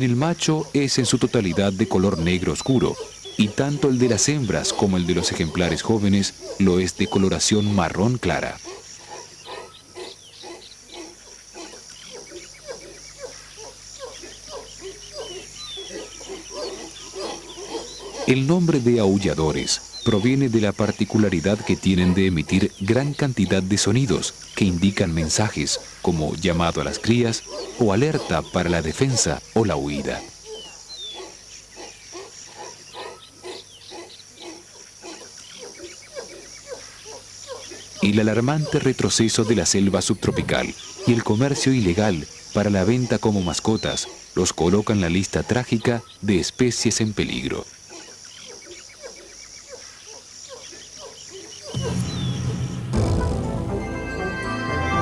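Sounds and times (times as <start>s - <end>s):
howler monkeys grunting calls: 0.0s - 52.8s
high insect drone: 0.0s - 55.0s.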